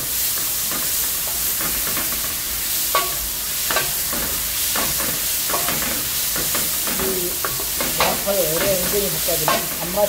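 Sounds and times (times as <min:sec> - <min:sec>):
garlic and onion sizzling in oil: 0:00.0 - 0:10.0.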